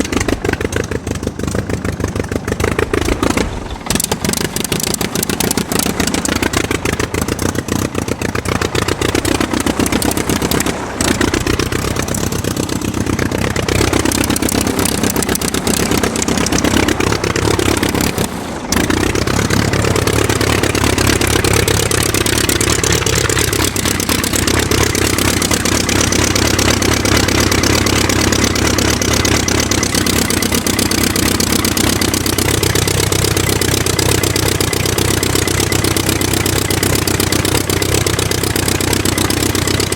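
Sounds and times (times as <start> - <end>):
aircraft engine running: 0.0 - 39.9.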